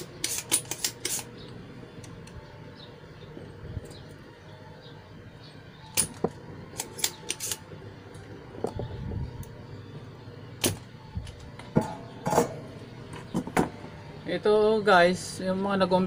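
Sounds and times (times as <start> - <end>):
faint steady hum: 1.3 - 16.0.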